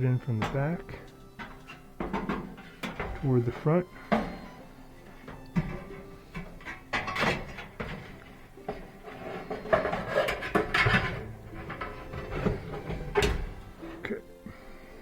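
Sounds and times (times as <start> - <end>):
sheet metal scraping and clanking: 0.0 - 15.0.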